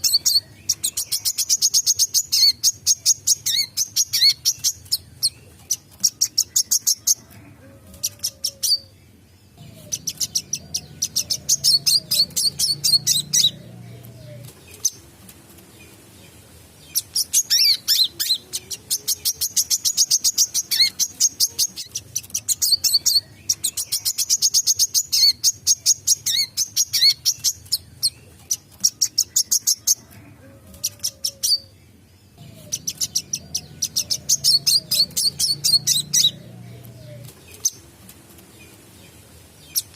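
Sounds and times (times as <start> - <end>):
sunbird singing rapid chattering: 0.0 - 7.2, 9.5 - 15.1, 15.7 - 30.0, 32.3 - 37.9.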